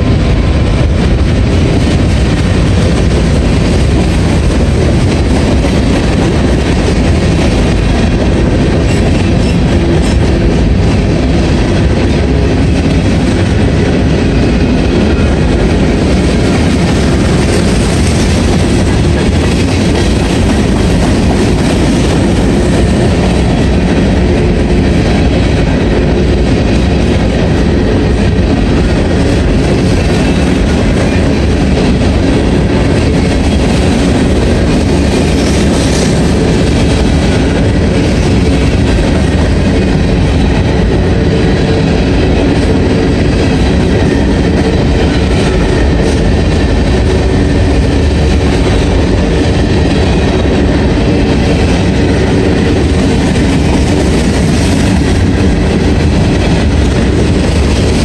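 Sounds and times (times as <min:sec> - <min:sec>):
freight train rolling past: 0:00.0 - 0:58.0
steel wheels rumbling on rail: 0:00.0 - 0:58.0.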